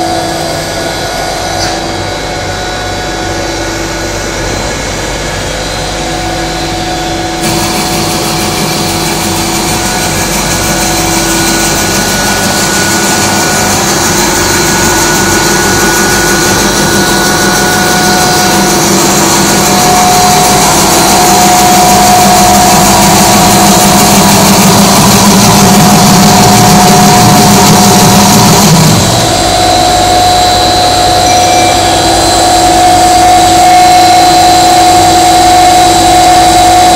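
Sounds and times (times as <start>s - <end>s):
machinery drone with whining tones: 0.0s - 36.9s.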